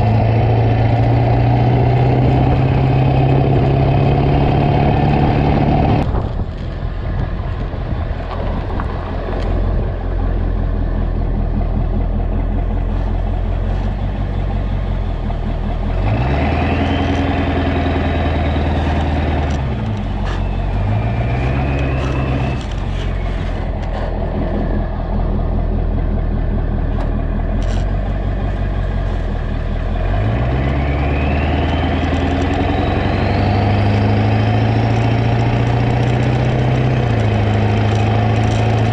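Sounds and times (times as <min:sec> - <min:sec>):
diesel truck engine revving: 0:00.0 - 0:38.9
tyres on gravel road: 0:00.0 - 0:38.9.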